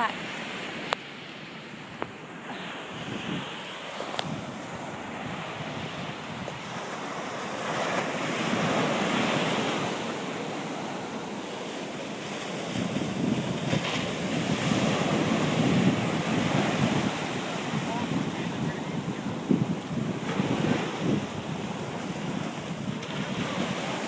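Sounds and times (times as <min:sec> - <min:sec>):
ocean surf washing: 0:00.0 - 0:24.0
wind buffeting microphone: 0:01.6 - 0:24.0.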